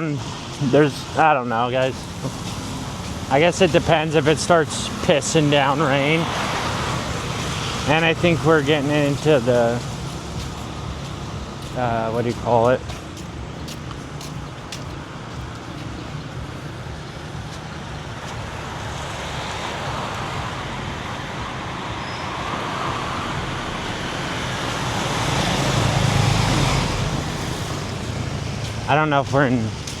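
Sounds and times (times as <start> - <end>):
passing vehicles: 0.0 - 30.0.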